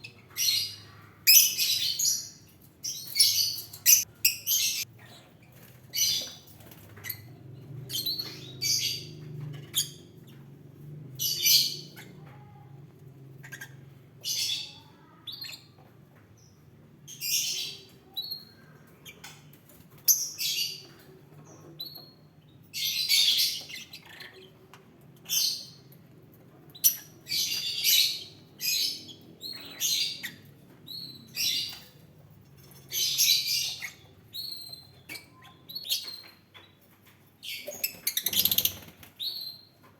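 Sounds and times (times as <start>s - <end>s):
lovebirds chirping: 0.0s - 10.6s, 13.4s - 39.9s.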